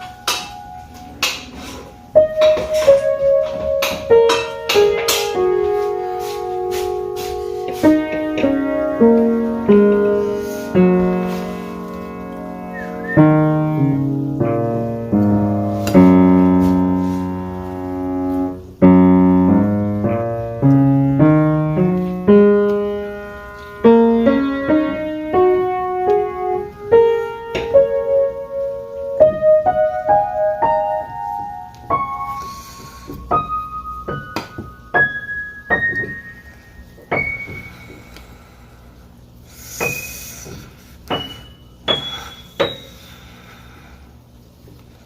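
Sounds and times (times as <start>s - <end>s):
piano music: 0.0s - 37.9s, 41.1s - 43.0s.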